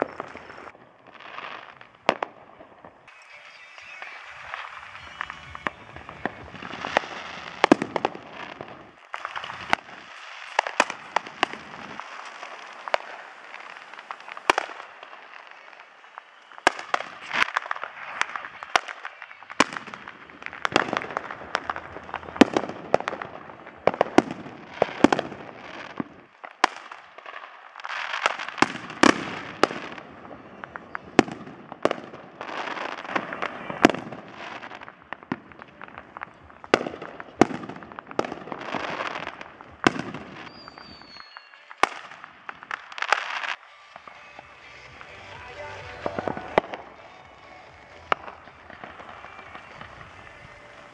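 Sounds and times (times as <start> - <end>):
fireworks bangs and pops: 0.0 - 50.9
fireworks crackling: 0.0 - 50.9.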